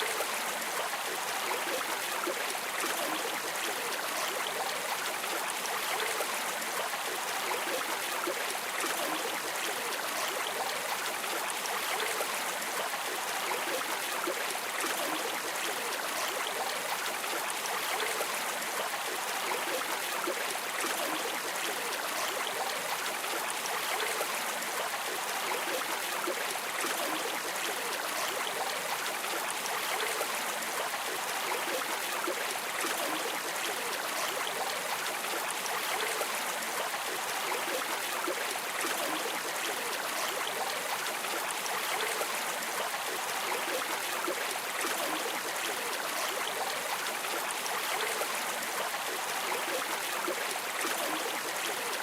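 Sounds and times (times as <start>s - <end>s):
stream water flowing: 0.0s - 52.0s.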